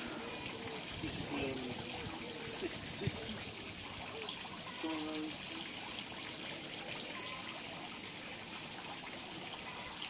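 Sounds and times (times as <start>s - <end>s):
fountain splashing and trickling: 0.0s - 10.0s.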